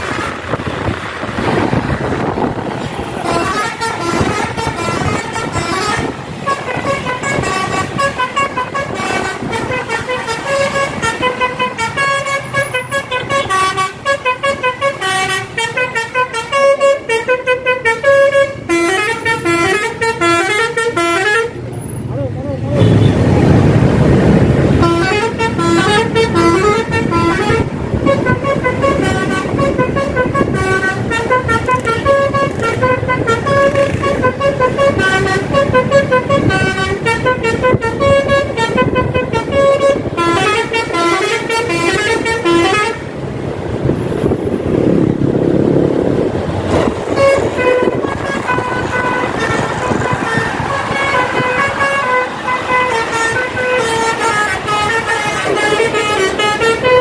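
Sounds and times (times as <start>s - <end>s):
bus horn playing melody: 0.0s - 0.8s, 2.2s - 21.6s, 24.7s - 43.2s, 46.7s - 57.0s
vehicle noise: 0.0s - 57.0s.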